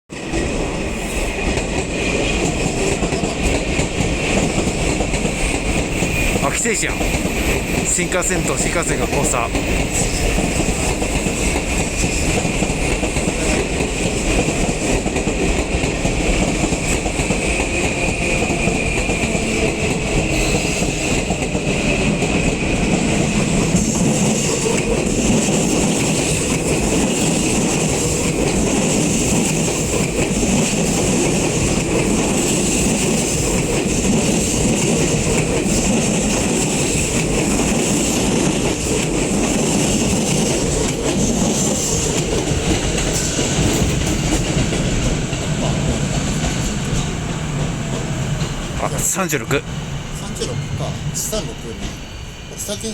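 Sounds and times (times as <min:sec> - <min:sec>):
train wheels running on rails: 0:00.1 - 0:52.9.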